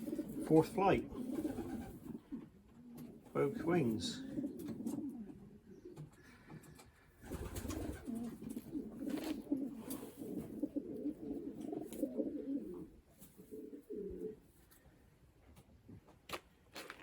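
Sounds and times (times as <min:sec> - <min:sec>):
pigeons cooing: 0:00.0 - 0:14.5.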